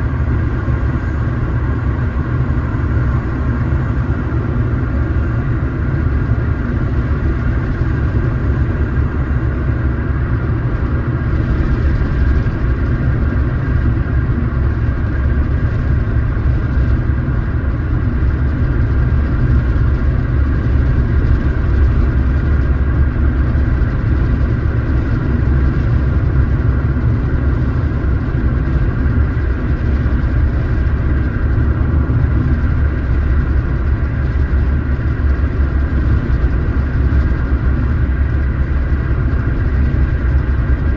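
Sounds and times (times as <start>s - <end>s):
car engine and road rumble: 0.0s - 40.9s
faint steady whine: 0.0s - 40.9s.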